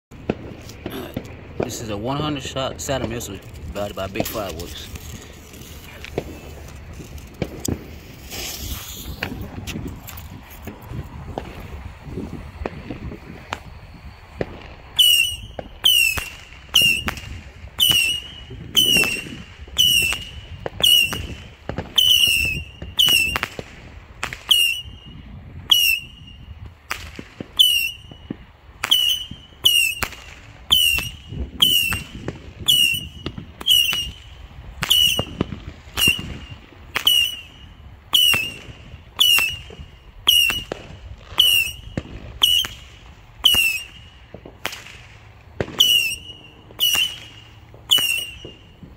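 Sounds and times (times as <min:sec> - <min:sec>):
small rockets whistling and cracking: 0:00.1 - 0:48.9.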